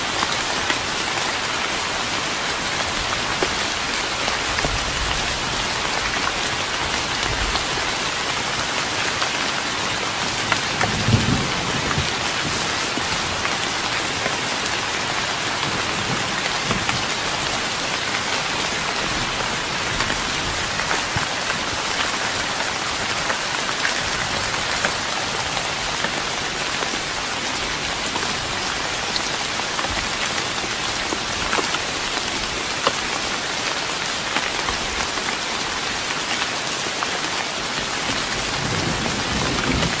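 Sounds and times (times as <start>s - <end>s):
rain on a wooden deck: 0.0s - 40.0s.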